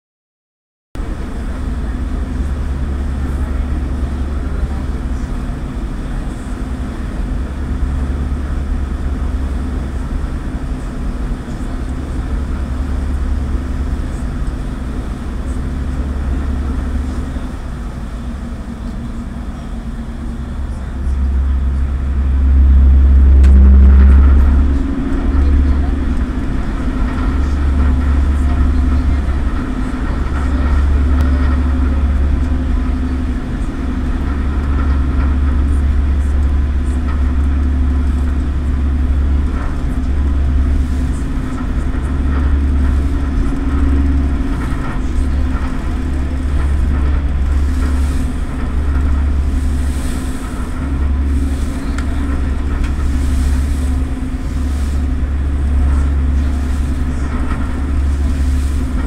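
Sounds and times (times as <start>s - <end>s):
ferry engines droning: 1.0s - 59.0s
wind rumble on microphone: 1.0s - 59.0s.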